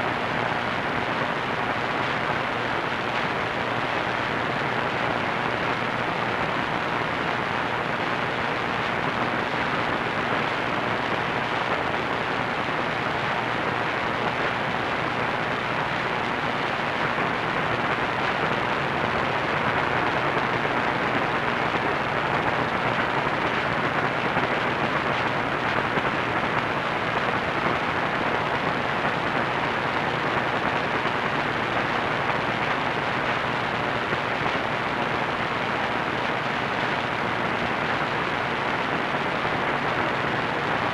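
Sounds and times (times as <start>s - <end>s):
radio static hiss: 0.0s - 40.9s.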